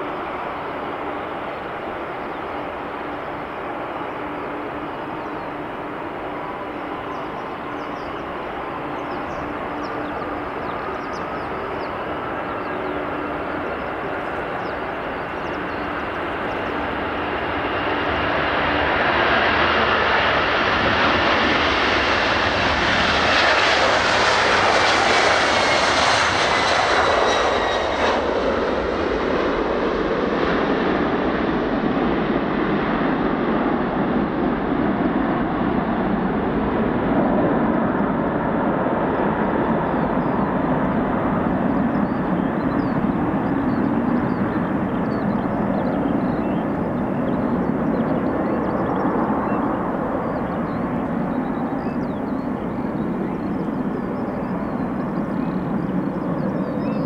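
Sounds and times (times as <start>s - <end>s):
falling jet engine whine: 0.0s - 57.0s
jet airliner taking off: 0.0s - 57.0s.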